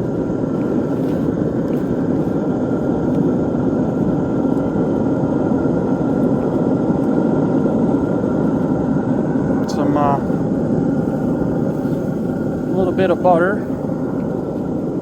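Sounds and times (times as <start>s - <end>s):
machine noise with high whine: 0.0s - 15.0s.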